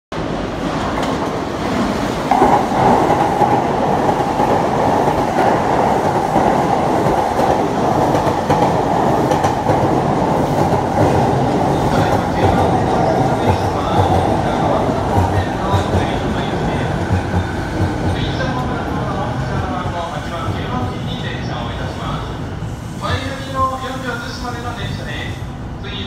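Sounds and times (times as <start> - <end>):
train wheels rumbling and clacking: 0.2 - 25.4.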